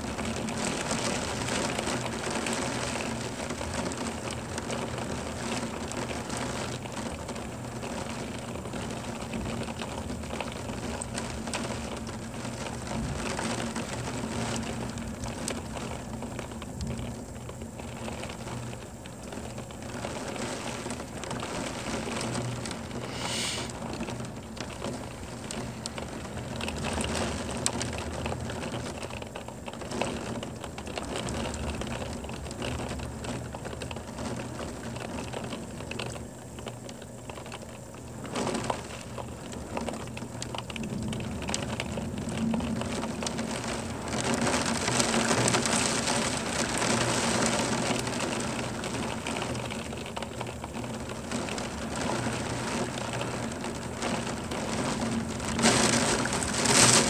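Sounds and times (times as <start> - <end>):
rain pouring: 0.0 - 57.0.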